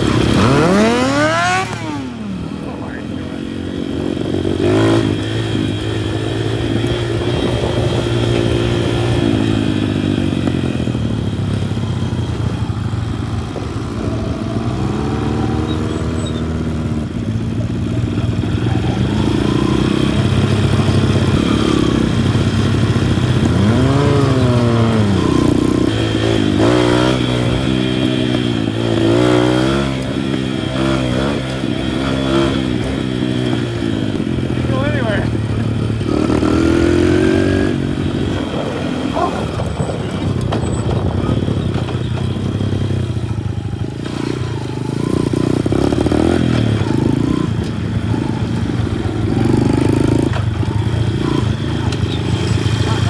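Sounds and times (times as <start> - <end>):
minibike engine revving: 0.0 - 53.0.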